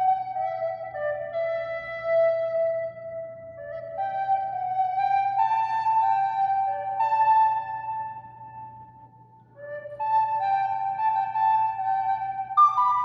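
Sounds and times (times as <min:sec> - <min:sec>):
recorder playing slow melody: 0:00.0 - 0:13.0.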